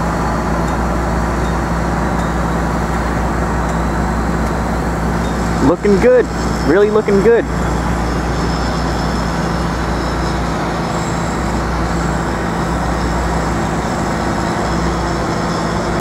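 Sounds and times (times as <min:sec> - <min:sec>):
city street traffic: 0:00.0 - 0:16.0
low engine hum: 0:00.0 - 0:16.0.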